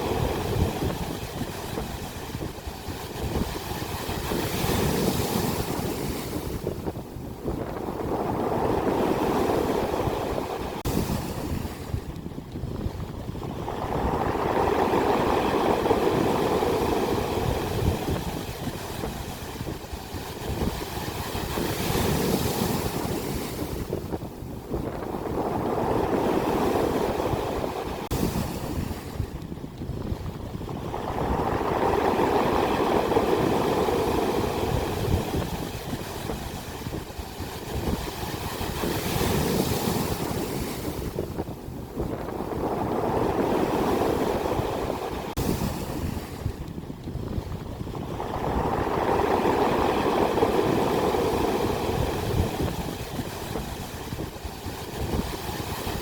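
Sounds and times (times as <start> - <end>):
ocean waves breaking: 0.0 - 56.0
wind rumbling on microphone: 0.0 - 56.0.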